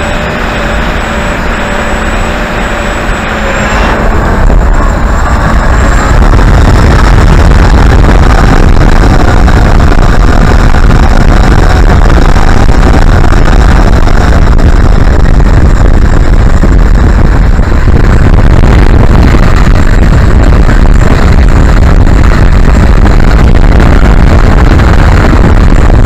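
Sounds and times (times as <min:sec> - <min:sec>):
faint motor and propeller whine: 0:00.0 - 0:26.0
wind buffeting microphone: 0:00.0 - 0:26.0.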